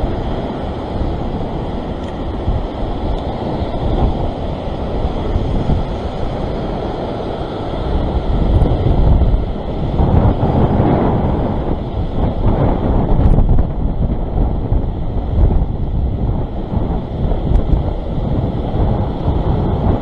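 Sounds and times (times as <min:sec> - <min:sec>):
surf breaking over rocks: 0:00.0 - 0:20.0
wind buffeting microphone: 0:00.0 - 0:20.0.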